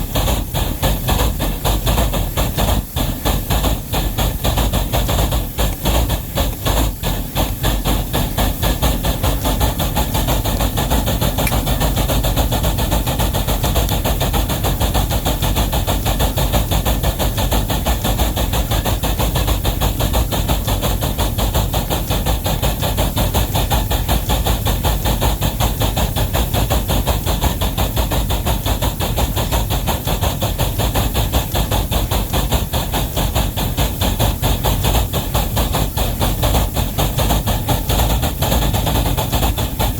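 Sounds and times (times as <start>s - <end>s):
steam locomotive exhaust chuffing: 0.0s - 39.9s.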